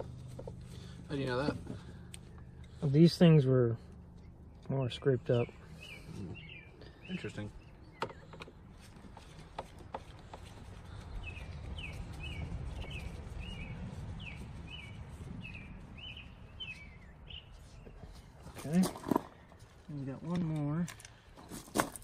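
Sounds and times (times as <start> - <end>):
low background rumble: 0.0 - 20.2
bird chirping: 0.0 - 20.4.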